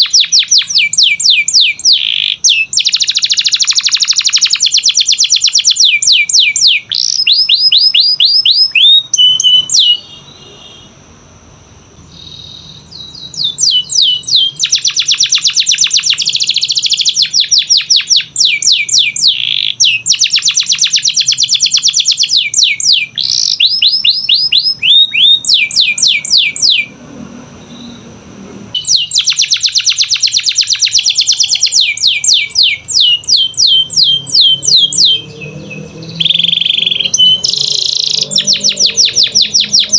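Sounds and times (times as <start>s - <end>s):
canary singing trills: 0.0s - 10.8s, 12.0s - 27.0s, 27.6s - 28.2s, 28.8s - 39.9s.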